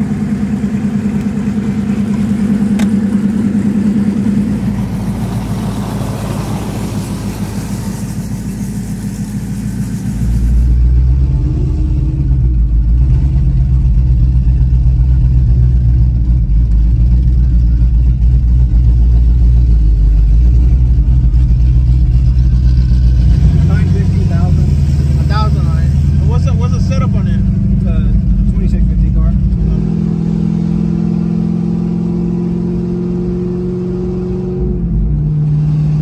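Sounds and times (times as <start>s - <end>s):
car engines idling outside: 0.0s - 30.2s
car engine running at low revs: 0.0s - 36.0s.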